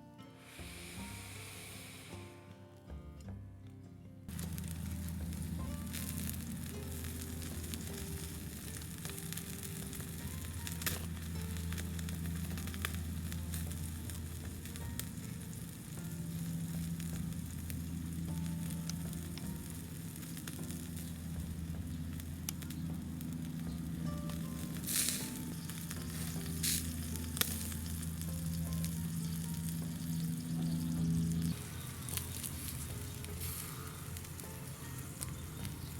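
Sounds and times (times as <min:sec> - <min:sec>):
soft background music: 0:00.0 - 0:35.9
skewers sizzling over fire: 0:00.2 - 0:02.9, 0:04.3 - 0:35.9
fire crackling: 0:00.3 - 0:02.9, 0:04.3 - 0:35.9.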